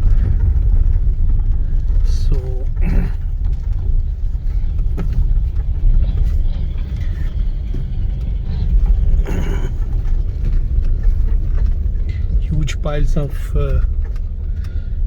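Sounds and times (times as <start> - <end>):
car rumbling over rough road: 0.0 - 15.0.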